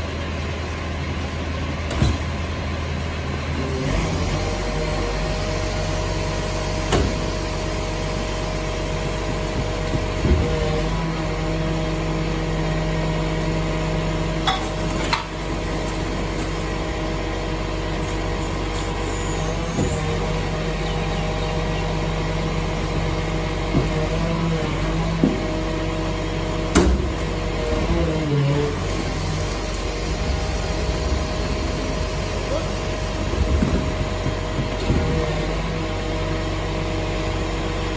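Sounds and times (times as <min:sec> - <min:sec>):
garbage truck engine and pump drone: 0:00.0 - 0:37.9.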